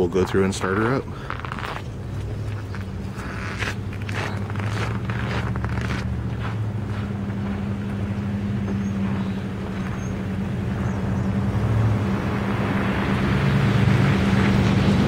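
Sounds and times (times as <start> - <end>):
diesel engine idling: 0.0 - 14.3.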